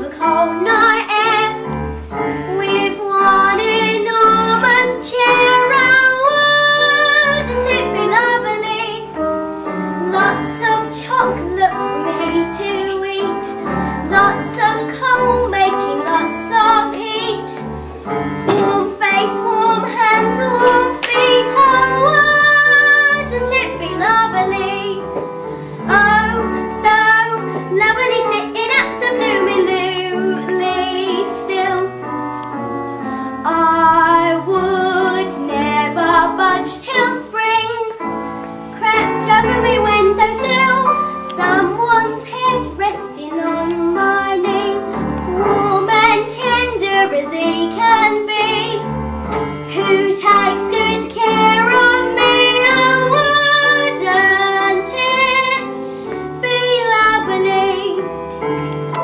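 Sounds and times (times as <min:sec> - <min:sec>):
girl singing: 0:00.0 - 0:01.7, 0:02.5 - 0:09.2, 0:09.9 - 0:17.7, 0:18.4 - 0:25.1, 0:25.9 - 0:32.1, 0:33.4 - 0:38.1, 0:38.8 - 0:48.9, 0:49.7 - 0:55.8, 0:56.4 - 0:58.1.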